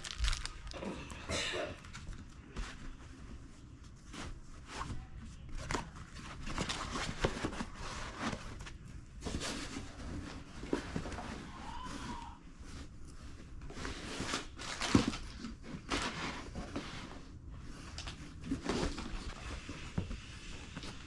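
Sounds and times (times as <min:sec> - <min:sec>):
rustling: 0:00.0 - 0:01.2, 0:01.8 - 0:21.0.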